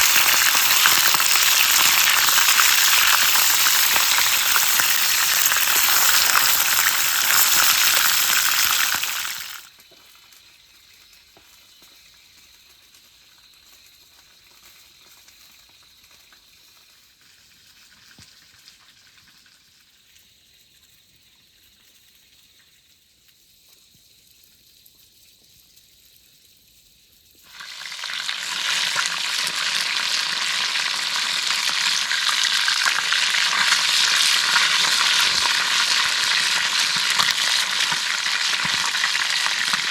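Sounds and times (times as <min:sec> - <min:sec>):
chicken sizzling in hot oil: 0:00.0 - 0:21.0, 0:27.4 - 0:39.9.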